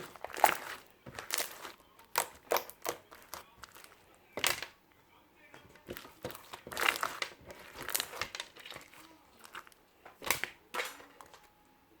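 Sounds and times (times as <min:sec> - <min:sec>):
crinkling and rustling: 0:00.0 - 0:04.8, 0:05.6 - 0:11.6.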